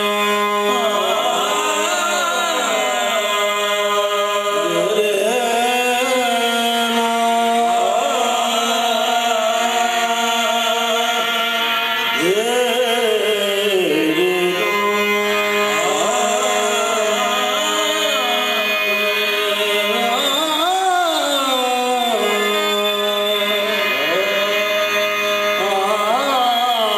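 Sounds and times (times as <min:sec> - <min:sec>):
harmonium tones: 0:00.0 - 0:26.9
man singing ornamented phrases: 0:00.0 - 0:26.9.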